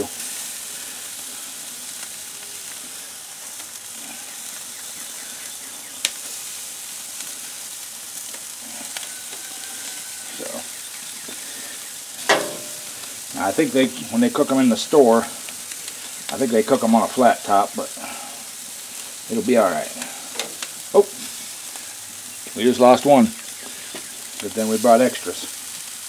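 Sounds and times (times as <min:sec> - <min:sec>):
meat sizzling on a grill: 0:00.0 - 0:26.0.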